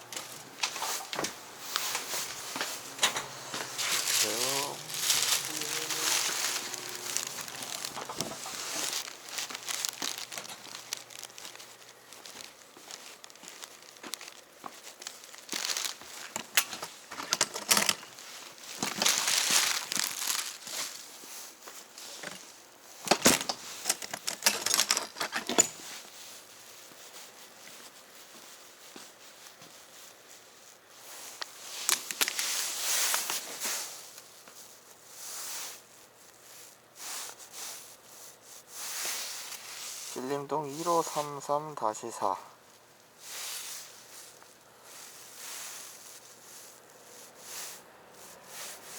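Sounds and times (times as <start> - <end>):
rustling and crinkling handling noise: 0.0 - 48.9.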